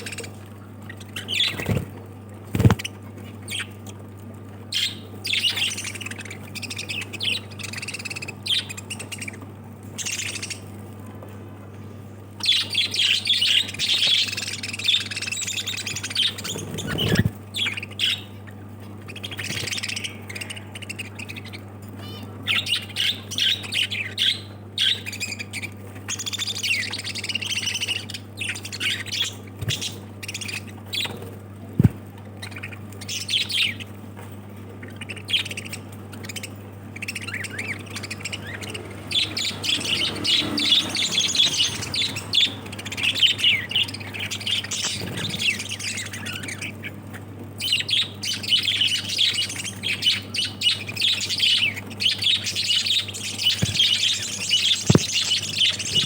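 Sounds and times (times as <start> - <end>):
parrots chattering and squawking: 0.0 - 4.0, 4.7 - 10.8, 12.4 - 56.0
steady low hum: 0.0 - 56.0.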